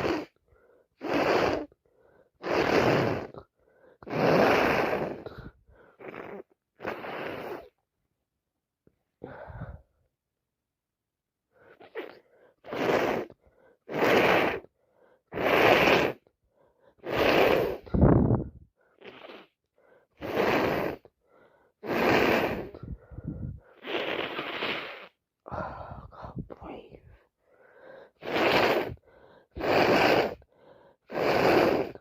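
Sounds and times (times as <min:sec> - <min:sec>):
woman sniffing: 0:00.0 - 0:07.8, 0:11.6 - 0:16.3, 0:16.9 - 0:32.0.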